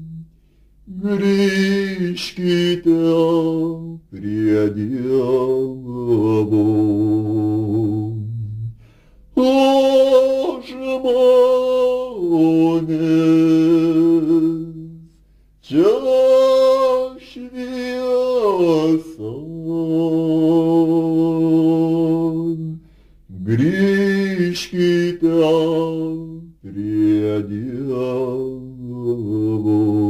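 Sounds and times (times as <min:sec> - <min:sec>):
slow hymn singing: 0:00.0 - 0:30.0.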